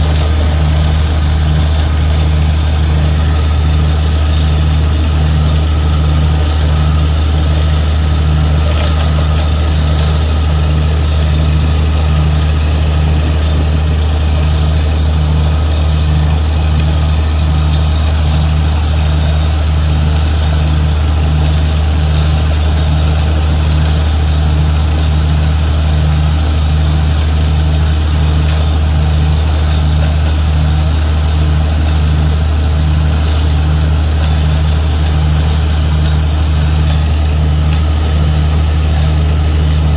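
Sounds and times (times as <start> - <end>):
drilling rig engine drone: 0.0 - 39.9.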